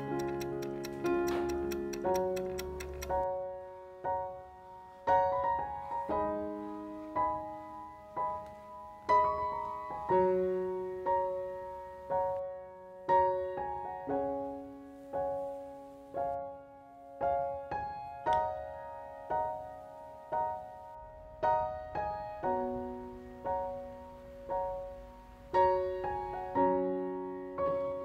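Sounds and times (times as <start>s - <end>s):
soft piano chords: 0.0s - 28.0s.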